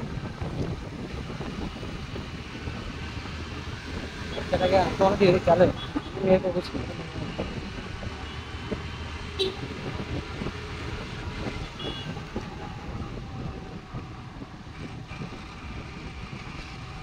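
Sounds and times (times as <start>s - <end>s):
scooter engine and road rumble: 0.0s - 17.0s.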